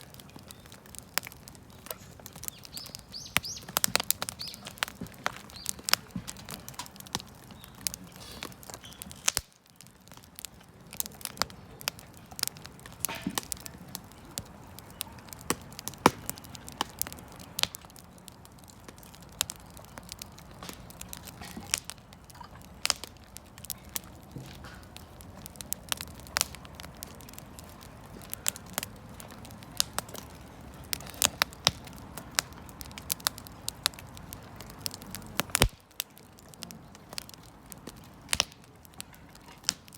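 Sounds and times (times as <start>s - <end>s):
campfire crackling and popping: 0.0s - 39.9s
low hiss of burning: 0.0s - 39.9s.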